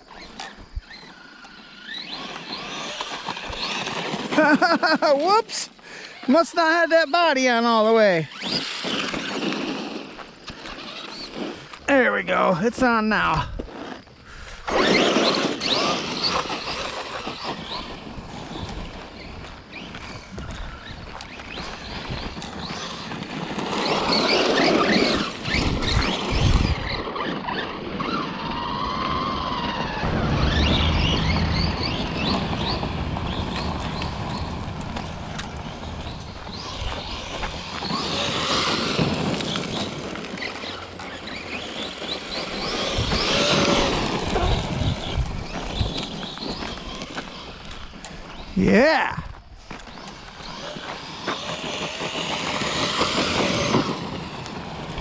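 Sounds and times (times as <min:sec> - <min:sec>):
electric motor whine: 0:00.0 - 0:04.6, 0:12.7 - 0:55.0
tyres on gravel: 0:00.0 - 0:55.0.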